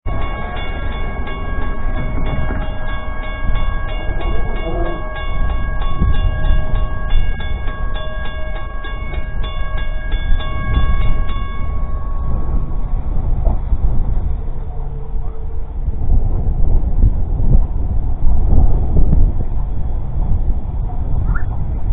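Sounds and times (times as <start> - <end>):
train passing: 0.1 - 21.9.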